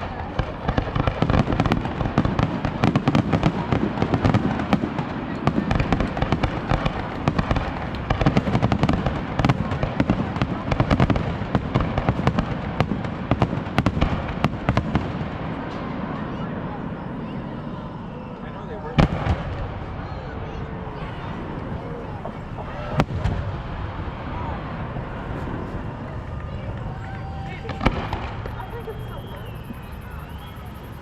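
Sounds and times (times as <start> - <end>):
fireworks bangs: 0.0 - 17.9, 18.6 - 31.0.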